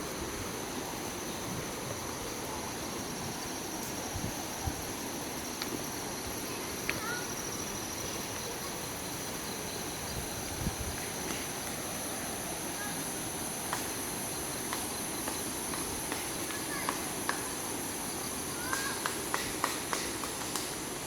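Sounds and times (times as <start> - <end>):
background hiss: 0.0 - 21.0
insects droning: 0.0 - 21.0.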